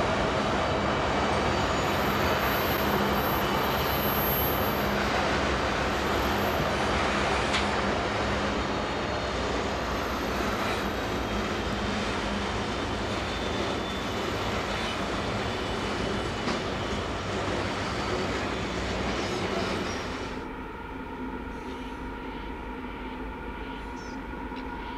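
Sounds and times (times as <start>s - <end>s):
locomotive engines droning: 0.0s - 24.9s
train running on rails: 0.0s - 24.9s.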